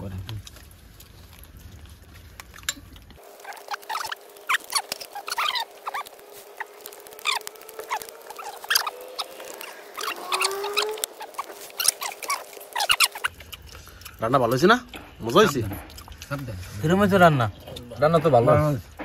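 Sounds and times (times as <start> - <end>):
people eating with wet smacking: 0.0 - 19.0.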